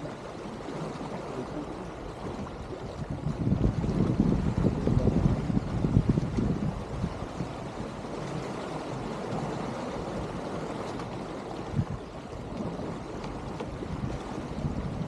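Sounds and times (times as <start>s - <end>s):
water rushing along boat hull: 0.0s - 15.0s.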